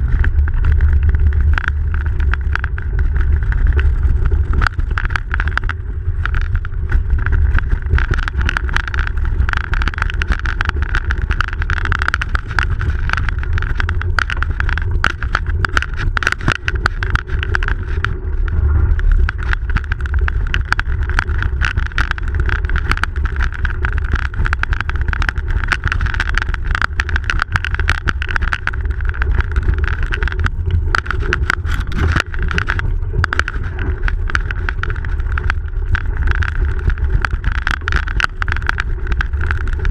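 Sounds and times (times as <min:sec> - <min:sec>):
bicycle rattles and clicks: 0:00.0 - 0:39.9
tyre and wind rumble: 0:00.0 - 0:39.9.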